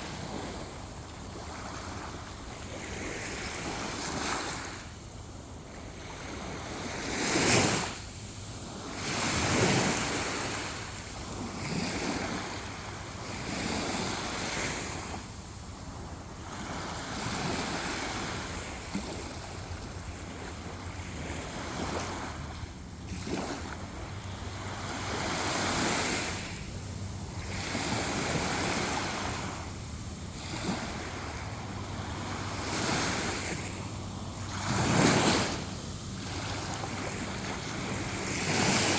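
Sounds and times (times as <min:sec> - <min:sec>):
sea waves breaking on beach: 0:00.0 - 0:38.9.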